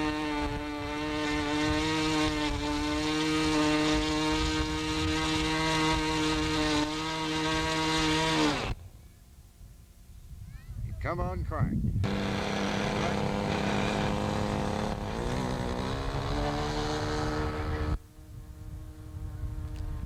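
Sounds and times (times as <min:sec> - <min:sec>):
small engine revving high: 0:00.0 - 0:08.8, 0:12.0 - 0:20.0.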